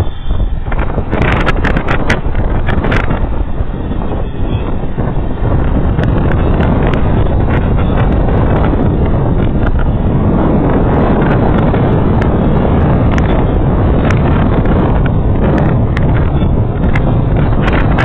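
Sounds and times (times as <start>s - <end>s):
low rumble of ride: 0.0s - 18.0s
wind buffeting microphone: 0.0s - 18.0s.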